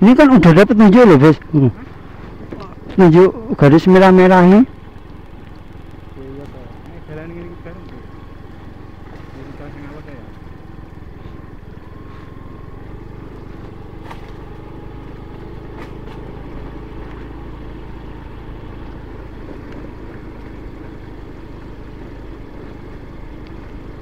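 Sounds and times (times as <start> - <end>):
small motorbike running: 0.0 - 24.0
wind and tyre noise: 0.0 - 24.0.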